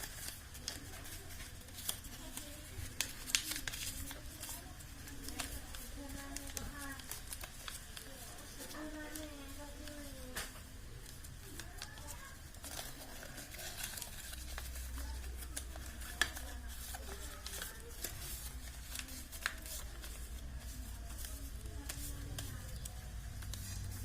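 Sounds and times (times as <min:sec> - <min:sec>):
paper creasing snaps: 0:00.0 - 0:24.0
paper crinkling and folding: 0:00.0 - 0:24.0.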